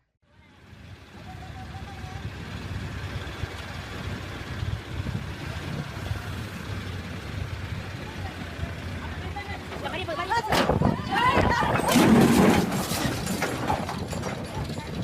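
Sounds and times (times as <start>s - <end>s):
heavy vehicle engine droning: 0.3s - 15.0s.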